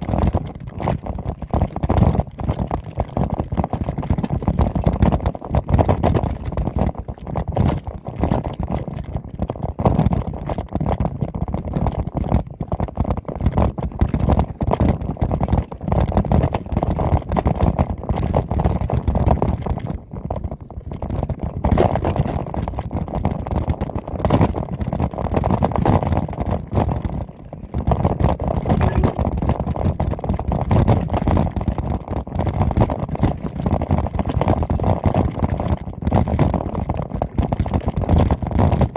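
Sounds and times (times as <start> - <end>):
rumble and rattle on rocky trail: 0.0 - 38.9
wind buffeting microphone: 0.0 - 38.9.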